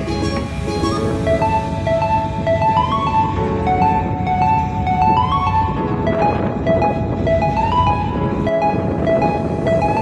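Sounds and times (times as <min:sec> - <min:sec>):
melody of short clear notes: 0:00.0 - 0:10.0.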